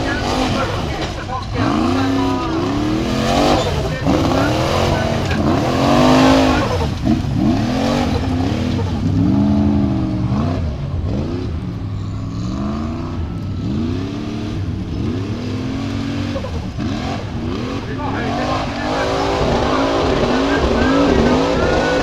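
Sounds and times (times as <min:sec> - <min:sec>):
buggy engine revving hard: 0:00.0 - 0:22.0.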